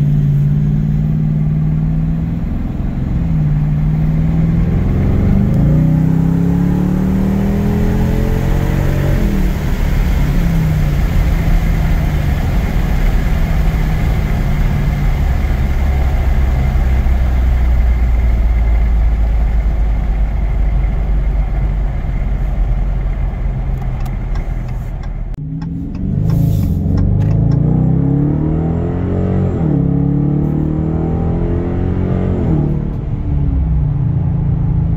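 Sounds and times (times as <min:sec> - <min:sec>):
car engine revving and rumbling: 0:00.0 - 0:34.9
road noise: 0:00.0 - 0:34.9.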